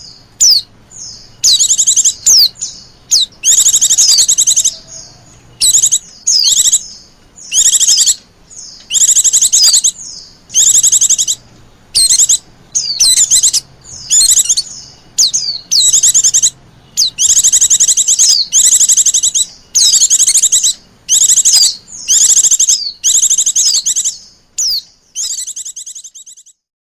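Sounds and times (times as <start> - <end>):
birds chirping trilled phrases: 0.0 - 26.7.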